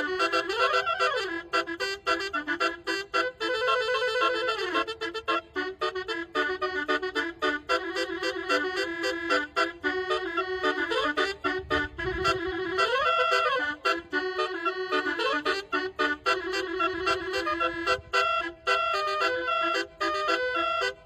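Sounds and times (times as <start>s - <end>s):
bus horn playing melody: 0.0s - 21.0s.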